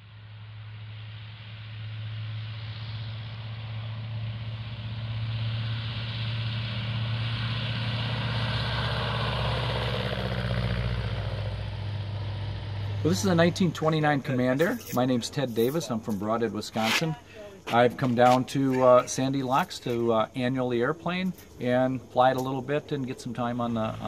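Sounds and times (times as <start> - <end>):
radial aircraft engine drone: 0.0 - 24.0.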